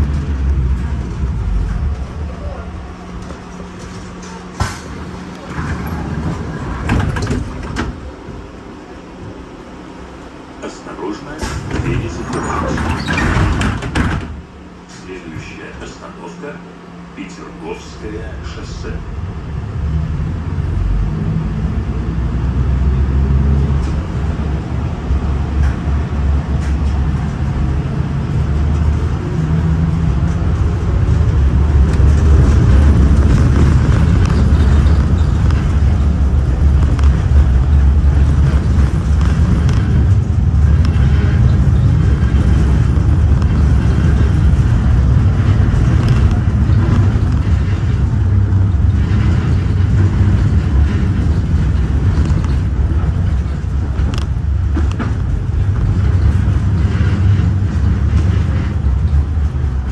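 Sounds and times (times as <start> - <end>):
tram rumbling: 0.0 - 59.9.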